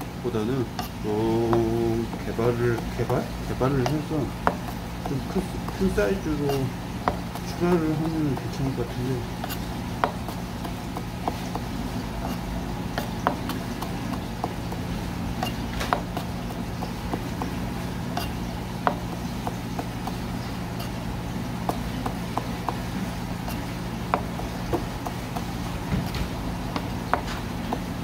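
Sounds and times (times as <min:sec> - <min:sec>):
steady low hum: 0:00.0 - 0:28.0
knife tapping on cutting board: 0:00.8 - 0:08.6, 0:09.4 - 0:17.6, 0:18.2 - 0:20.2, 0:21.7 - 0:22.8, 0:23.5 - 0:27.9.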